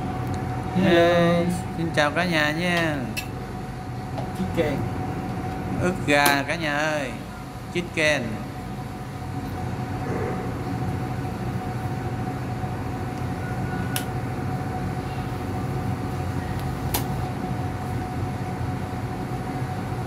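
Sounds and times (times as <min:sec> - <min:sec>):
faint steady whine: 0:00.0 - 0:20.0
low mechanical hum: 0:00.0 - 0:20.0.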